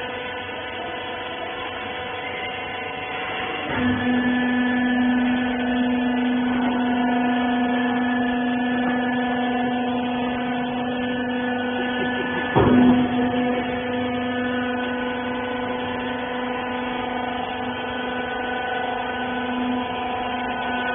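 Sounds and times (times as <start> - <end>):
hydraulic baling press humming: 0.0 - 20.9.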